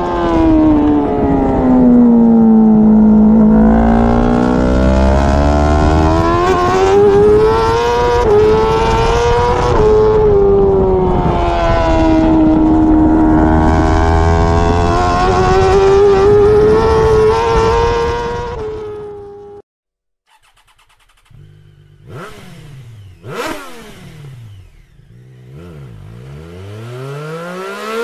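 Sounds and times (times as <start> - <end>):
motorcycle engine at high revs: 0.0 - 19.6, 20.3 - 28.0.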